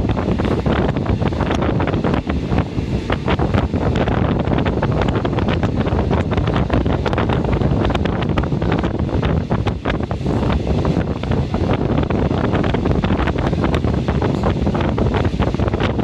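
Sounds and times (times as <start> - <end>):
train coach rattling: 0.0 - 16.0
wind buffeting microphone: 0.0 - 16.0.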